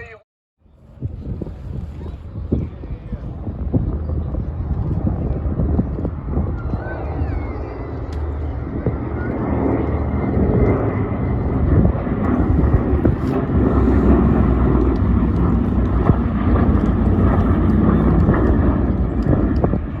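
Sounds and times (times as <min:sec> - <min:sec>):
propeller aircraft engine running: 0:00.6 - 0:20.0.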